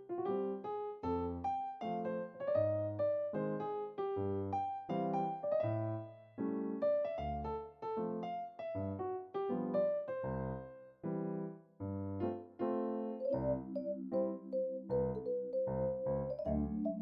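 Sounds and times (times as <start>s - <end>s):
electric piano music: 0.0s - 17.0s.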